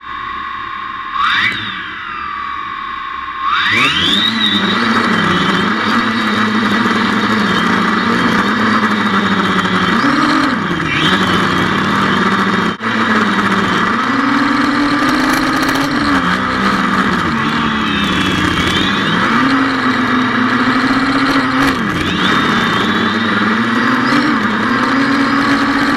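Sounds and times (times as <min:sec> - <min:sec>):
drone propellers whirring: 0:00.0 - 0:25.9.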